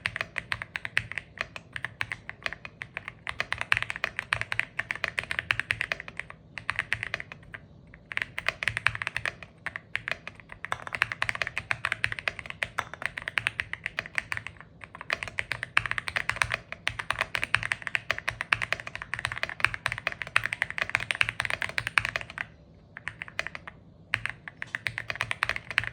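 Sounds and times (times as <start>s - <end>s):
mechanical keyboard typing: 0.0s - 25.9s.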